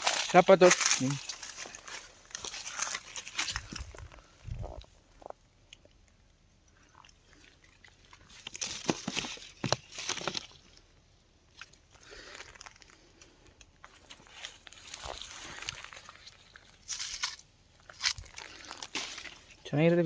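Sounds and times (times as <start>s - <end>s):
crunching and rustling: 0.0s - 20.0s.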